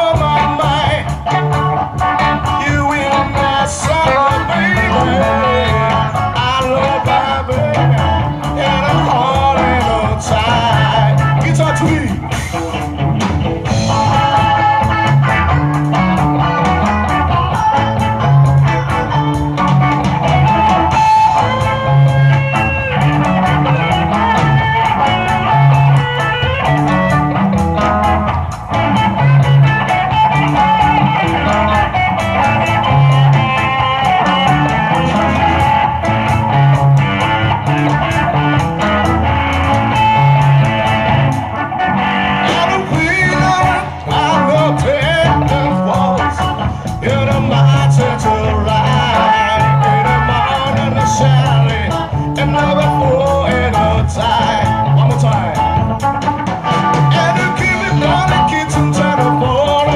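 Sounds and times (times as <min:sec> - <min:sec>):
bass guitar: 0:00.0 - 0:59.9
drum kit: 0:00.0 - 0:59.9
electric guitars: 0:00.0 - 0:59.9
guitar bending notes: 0:00.0 - 0:59.9.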